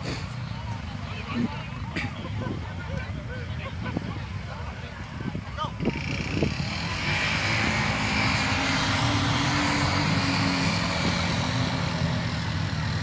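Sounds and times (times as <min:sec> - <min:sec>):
quad engine running hard: 0:00.0 - 0:13.0.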